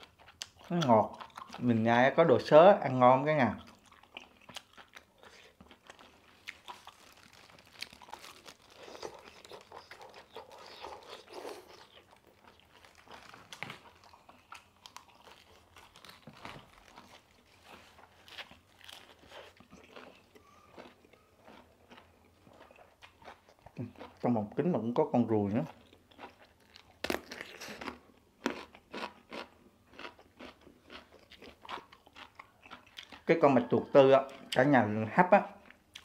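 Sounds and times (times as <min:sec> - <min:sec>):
person chewing and crunching food: 0:00.0 - 0:36.0.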